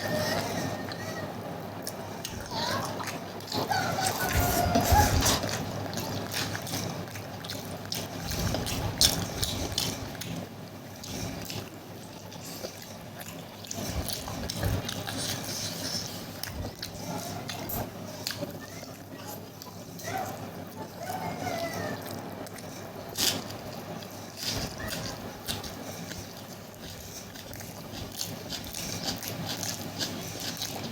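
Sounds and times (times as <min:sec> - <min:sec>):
wet chewing and slurping: 0:00.0 - 0:30.9.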